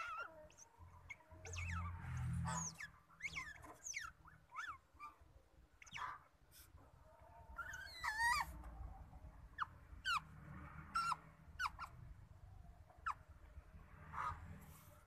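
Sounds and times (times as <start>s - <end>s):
otter pups squeaking: 0.0s - 12.1s, 12.9s - 13.3s, 14.1s - 14.5s.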